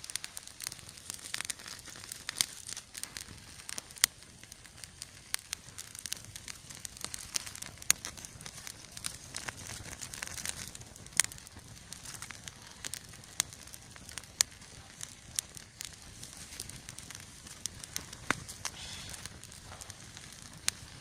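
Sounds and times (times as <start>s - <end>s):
campfire crackling and popping: 0.0s - 21.0s
fire hissing: 0.0s - 21.0s.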